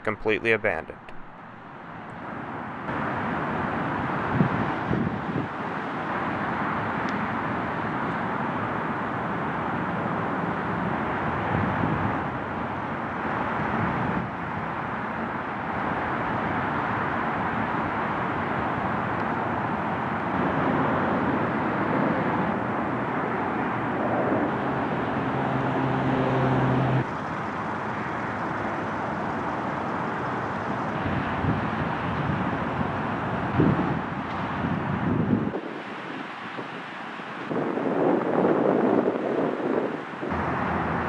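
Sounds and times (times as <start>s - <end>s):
distant traffic rush: 0.0s - 41.0s.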